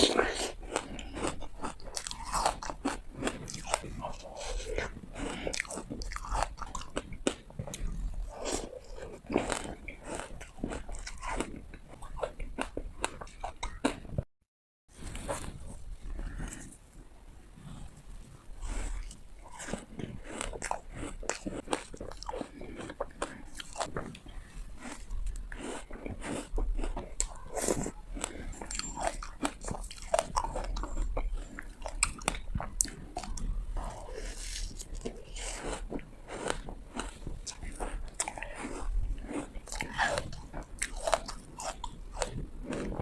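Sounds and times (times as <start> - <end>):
ice crunching between teeth: 0.0 - 14.1, 18.6 - 43.0
chewing: 0.0 - 14.2, 17.6 - 43.0.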